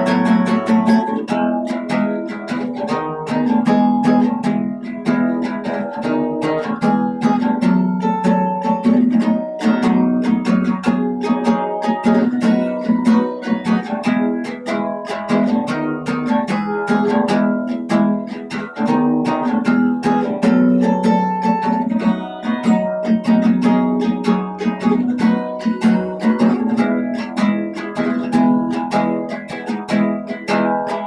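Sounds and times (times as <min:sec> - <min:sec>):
fast acoustic guitar: 0:00.0 - 0:31.0.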